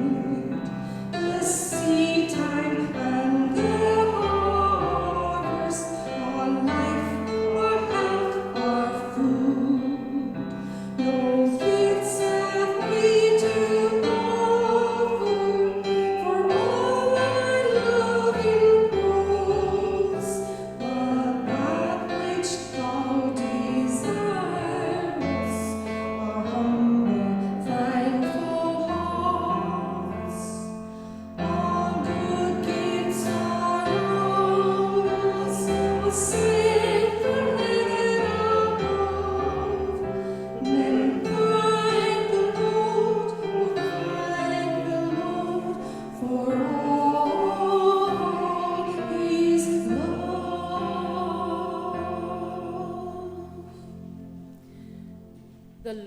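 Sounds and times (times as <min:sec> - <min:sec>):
voices singing a hymn: 0:00.0 - 0:54.8.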